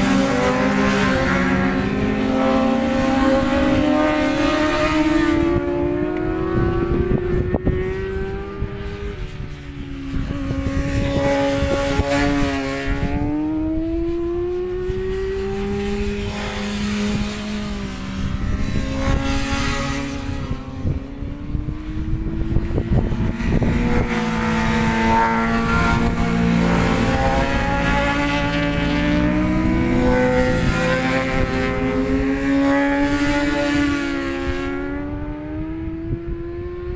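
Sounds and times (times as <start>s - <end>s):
racing motorcycle engines: 0.0s - 36.9s
wind buffeting microphone: 0.0s - 36.9s.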